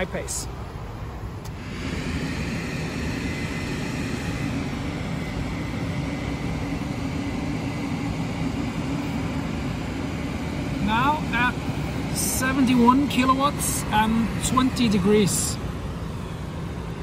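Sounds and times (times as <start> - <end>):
cooling fans whirring: 0.0 - 17.0
faint high whine: 0.0 - 17.0
low hum: 0.5 - 17.0.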